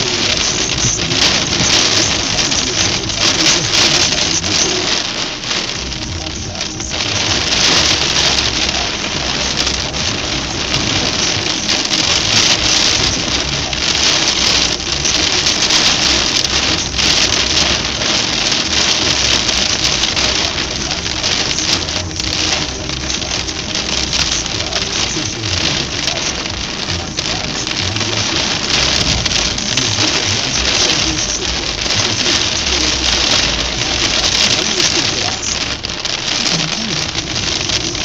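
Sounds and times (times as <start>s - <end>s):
heavy rain on a car: 0.0s - 38.0s
low rumble: 0.0s - 38.0s.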